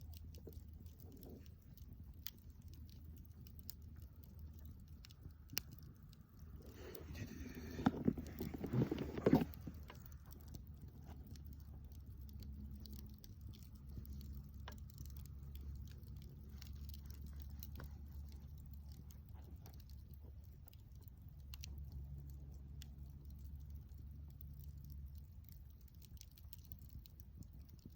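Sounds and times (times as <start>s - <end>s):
campfire crackling: 0.0s - 27.9s
low steady rumble: 0.0s - 27.9s.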